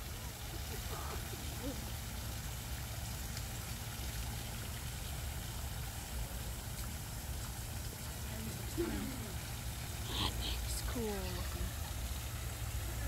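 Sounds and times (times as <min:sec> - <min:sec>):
waterfall splashing into pond: 0:00.0 - 0:13.0.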